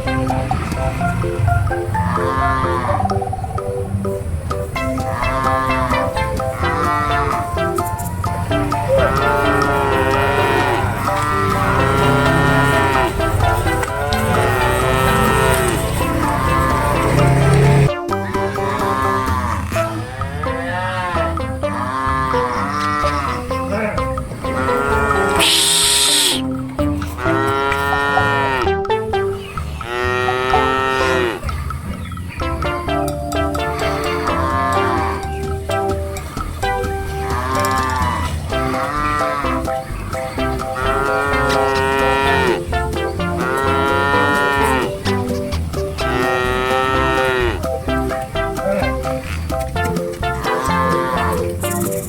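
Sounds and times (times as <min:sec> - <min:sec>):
background music: 0:00.0 - 0:52.0
cattle mooing: 0:00.1 - 0:03.4, 0:04.8 - 0:28.8, 0:29.8 - 0:32.0, 0:33.6 - 0:35.6, 0:36.2 - 0:49.4, 0:50.1 - 0:51.8.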